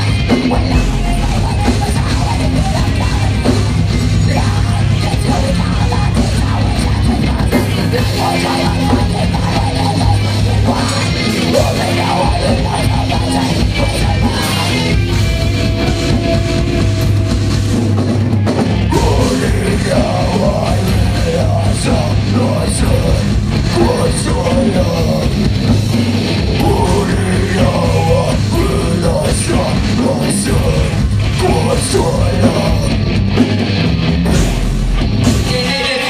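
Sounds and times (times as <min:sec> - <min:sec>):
bass guitar: 0:00.0 - 0:36.0
distorted electric guitars: 0:00.0 - 0:36.0
drum kit: 0:00.0 - 0:36.0.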